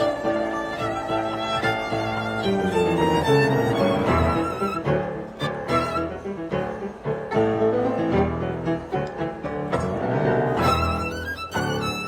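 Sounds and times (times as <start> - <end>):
stringed instruments playing melody: 0.0 - 12.0.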